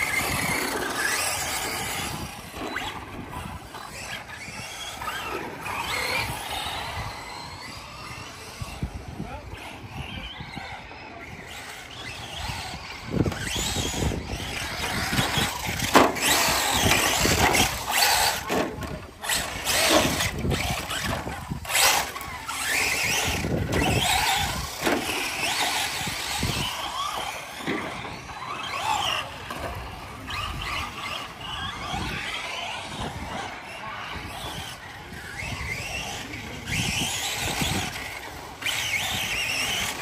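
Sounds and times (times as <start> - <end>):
tyres scrabbling on dirt: 0.0 - 8.6, 9.6 - 40.0
electric motors whining: 0.0 - 40.0.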